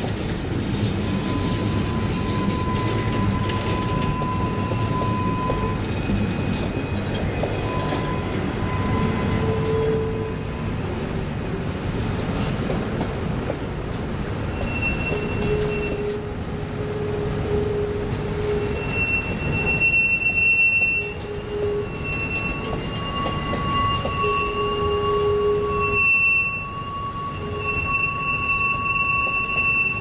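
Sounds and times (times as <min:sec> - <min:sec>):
train wheels rumbling on rails: 0:00.0 - 0:30.0
wheel squeal: 0:00.7 - 0:10.9, 0:12.2 - 0:30.0.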